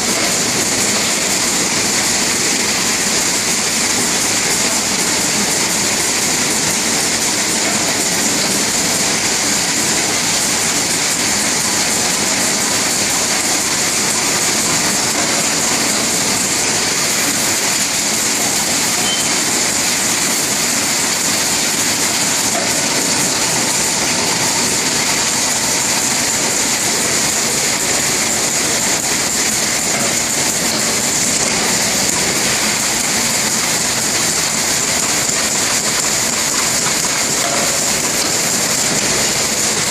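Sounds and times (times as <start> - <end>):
packaging machine hiss and rumble: 0.0 - 39.9.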